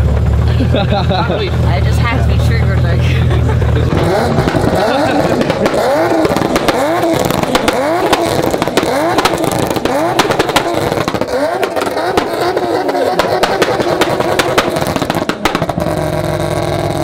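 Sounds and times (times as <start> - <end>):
exhaust crackling pops: 0.0 - 1.8, 2.5 - 17.0
car engine revving: 0.0 - 17.0.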